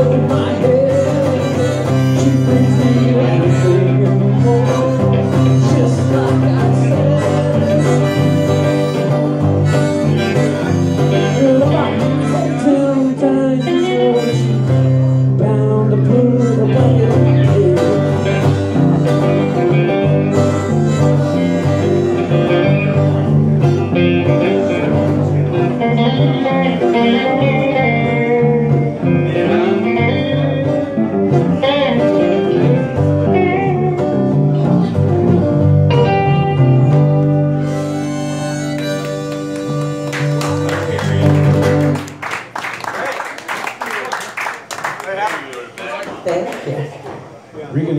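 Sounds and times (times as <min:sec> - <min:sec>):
harmonica: 0:00.0 - 0:41.9
electric bass: 0:00.0 - 0:42.2
strummed acoustic guitar: 0:00.0 - 0:42.2.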